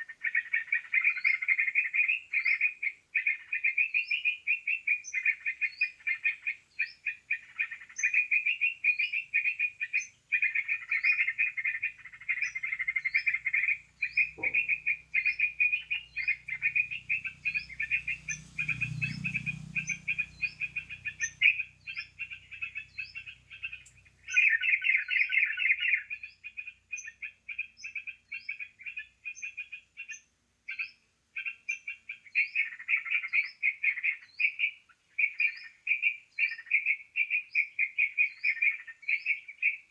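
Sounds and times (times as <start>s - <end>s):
bird chattering: 0.0s - 39.9s
high rising bird chirps: 0.0s - 39.9s.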